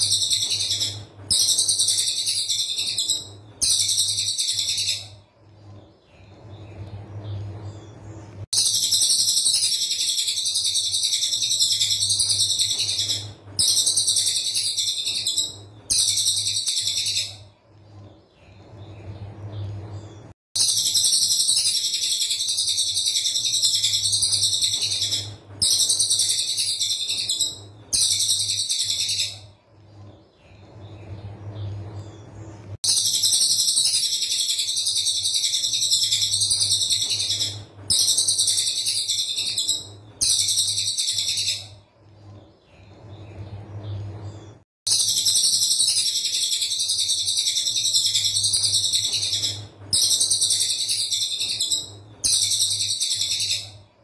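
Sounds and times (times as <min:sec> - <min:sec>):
songbird rapid rattling song: 0:00.0 - 0:43.4, 0:44.9 - 0:53.8
low steady hum: 0:00.0 - 0:54.0.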